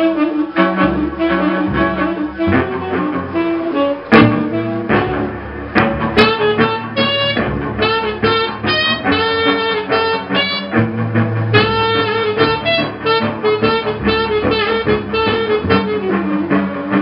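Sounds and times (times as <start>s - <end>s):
bowed cello notes: 0.0s - 17.0s
saxophone playing quick notes: 0.0s - 17.0s.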